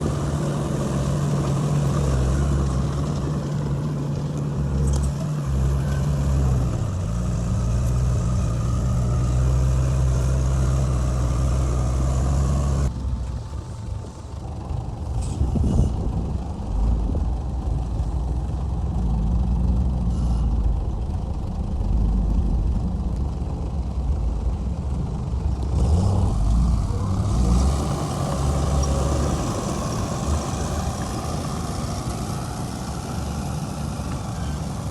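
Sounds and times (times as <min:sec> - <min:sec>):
heavy diesel machinery running: 0:00.0 - 0:34.9.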